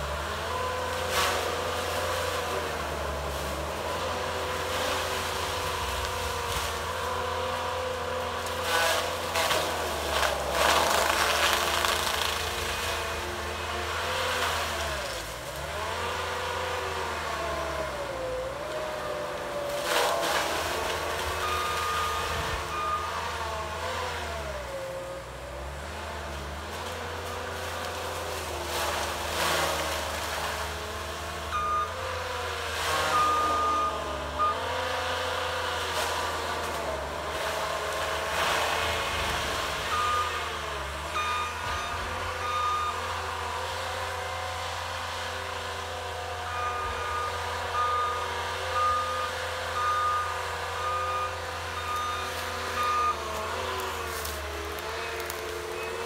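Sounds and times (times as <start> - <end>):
diesel engine under load: 0.0 - 56.0
mulcher crashing and shredding: 0.1 - 23.8, 26.3 - 47.8, 49.7 - 56.0.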